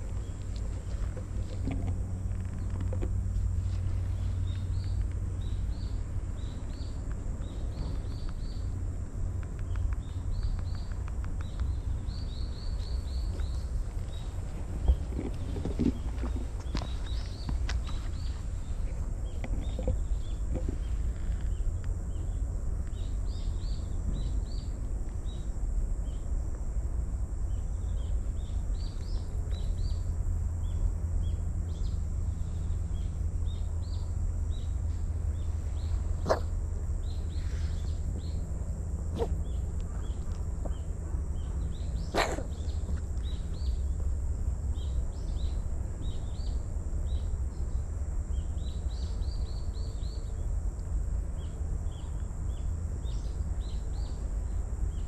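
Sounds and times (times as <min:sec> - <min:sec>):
small birds chirping: 0:00.0 - 0:26.4, 0:27.4 - 0:55.0
steady low rumble: 0:00.0 - 0:55.0.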